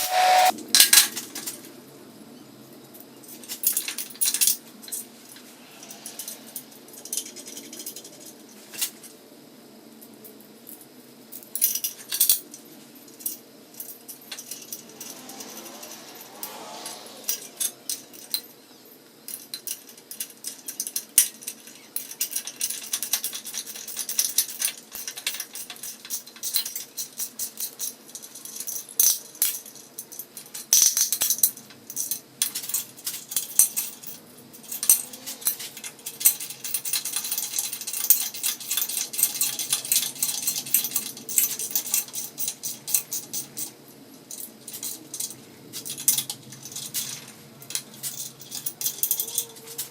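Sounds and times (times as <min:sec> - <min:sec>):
metal parts clinking and rattling: 0:03.2 - 0:09.1, 0:10.6 - 0:49.9.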